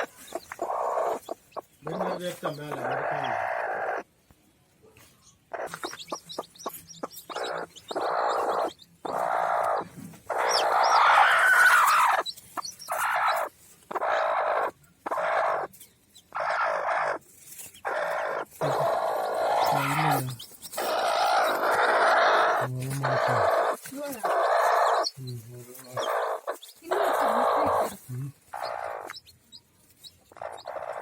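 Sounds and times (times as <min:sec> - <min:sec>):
chicken clucking: 0:00.0 - 0:31.0.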